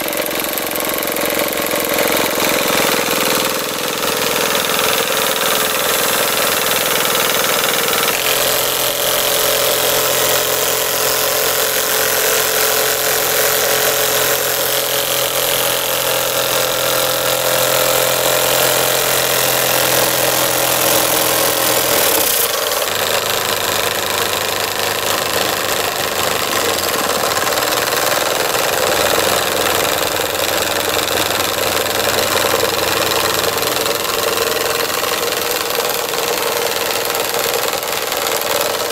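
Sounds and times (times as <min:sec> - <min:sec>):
model steam engine hissing and clattering: 0:00.0 - 0:38.9.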